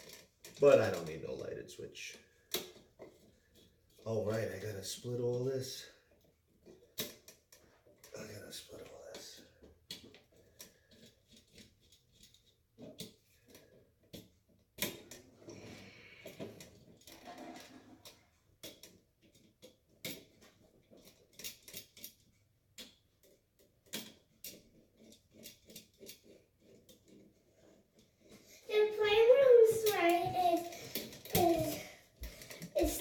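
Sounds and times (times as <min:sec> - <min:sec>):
hand tools clicking and scraping: 0:02.1 - 0:33.0.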